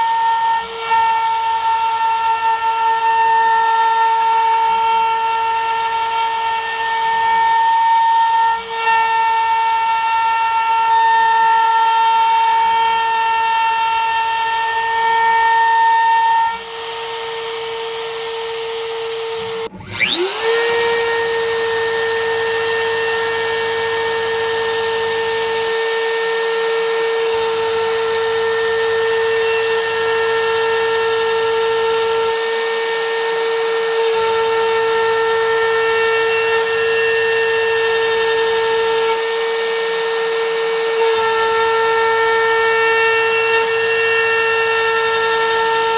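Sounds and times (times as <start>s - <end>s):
router spindle whining: 0.0s - 45.9s.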